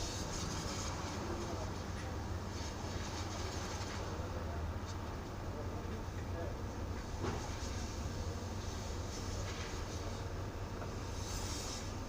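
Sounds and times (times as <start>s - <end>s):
road noise hiss: 0.0s - 12.0s.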